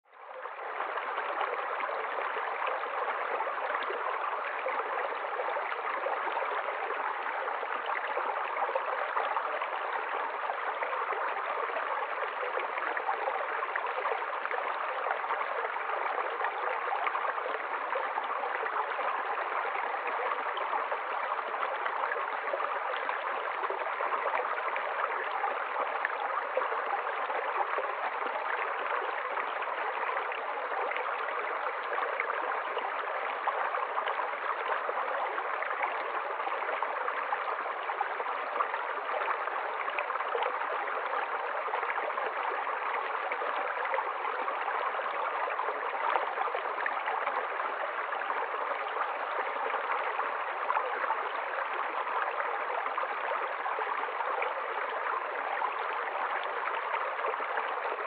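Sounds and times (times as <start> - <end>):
stream flowing over stones: 0.1 - 58.0.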